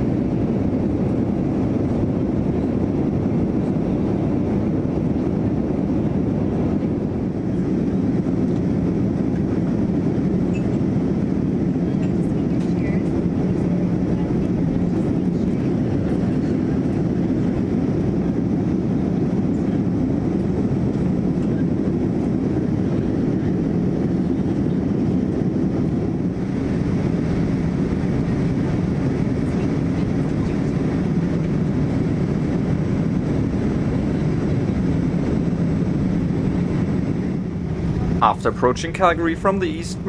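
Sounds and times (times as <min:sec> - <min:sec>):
airplane cabin airflow and engine: 0:00.0 - 0:40.0.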